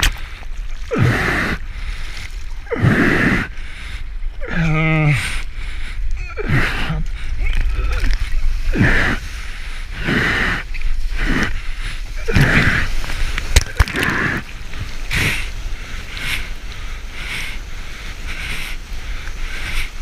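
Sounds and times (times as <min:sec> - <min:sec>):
whitewater splashing: 0:00.0 - 0:04.8, 0:06.3 - 0:20.0
steady low rumble: 0:00.0 - 0:20.0.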